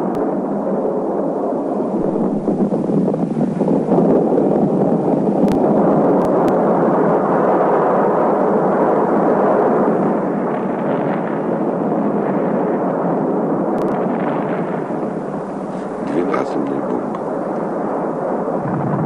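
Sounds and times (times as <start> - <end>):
explosion roaring rumble: 0.0 - 19.0.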